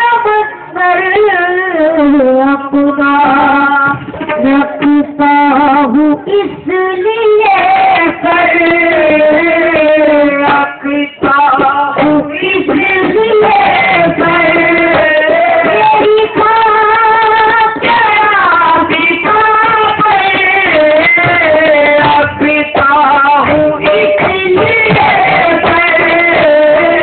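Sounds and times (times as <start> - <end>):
high voice singing devotional song: 0.0 - 27.0.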